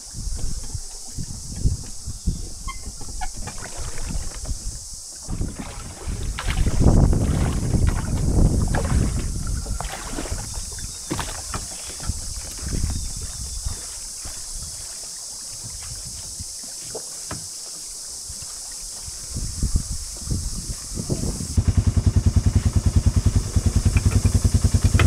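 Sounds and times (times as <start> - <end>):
wind on microphone: 0.0 - 16.7, 18.3 - 25.0
water lapping against boat hulls: 0.0 - 21.6.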